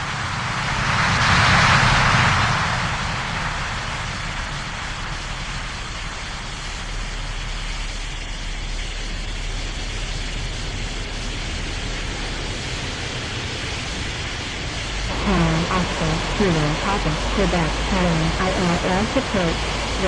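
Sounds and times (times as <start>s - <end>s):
airliner jet engines rushing: 0.0s - 20.0s.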